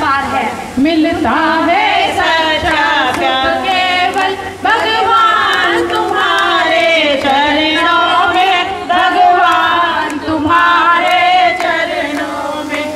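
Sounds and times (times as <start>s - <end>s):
voices singing devotional song: 0.0s - 12.9s.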